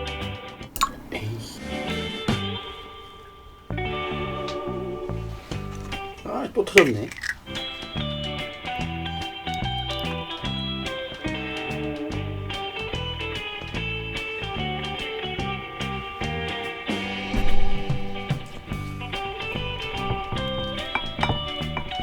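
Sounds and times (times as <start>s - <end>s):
instrumental guitar music: 0.0s - 6.4s, 7.1s - 22.0s.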